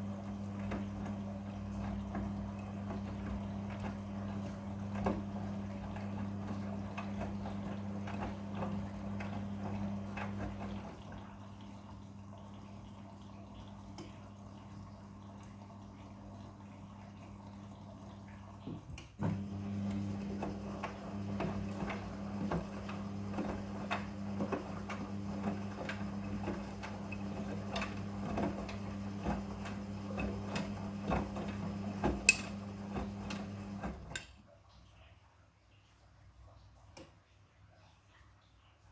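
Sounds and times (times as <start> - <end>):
washing machine motor hum: 0.0 - 34.4.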